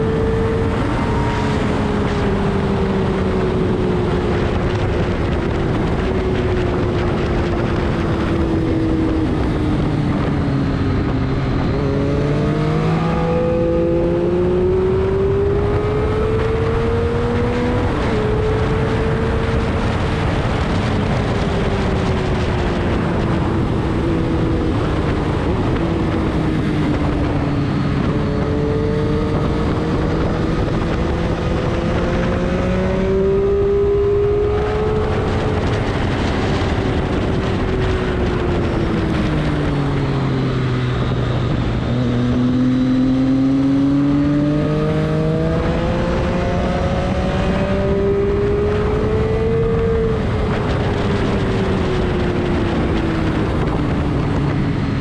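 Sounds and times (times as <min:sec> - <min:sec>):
race car engine running hard: 0:00.0 - 0:55.0.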